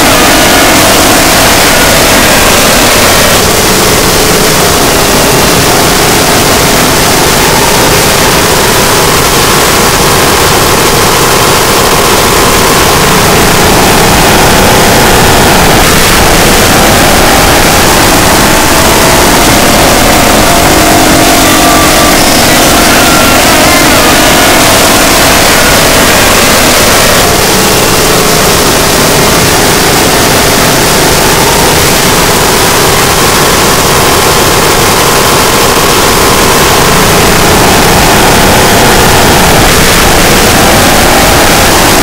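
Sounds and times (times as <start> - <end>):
distorted electronic noise: 0.0 - 42.0.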